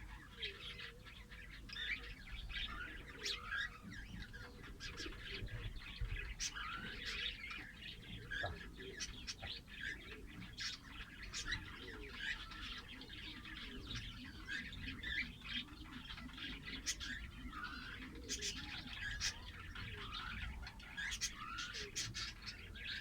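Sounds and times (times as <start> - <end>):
lovebirds chirping and chattering: 0.0 - 23.0.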